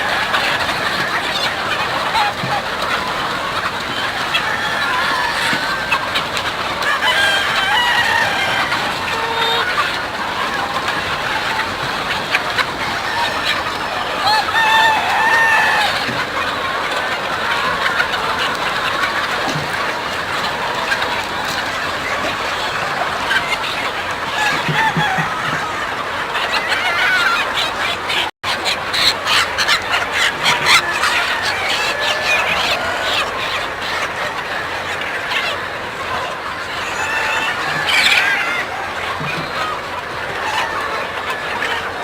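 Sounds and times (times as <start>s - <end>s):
chickens clucking and calling: 0.0s - 42.0s.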